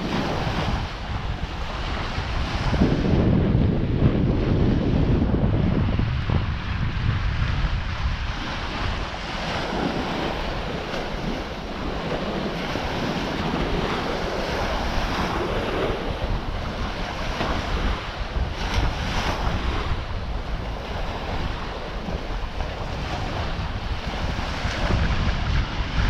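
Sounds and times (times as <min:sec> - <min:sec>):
sea waves washing onto beach: 0:00.0 - 0:26.0
wind buffeting microphone: 0:00.0 - 0:26.0.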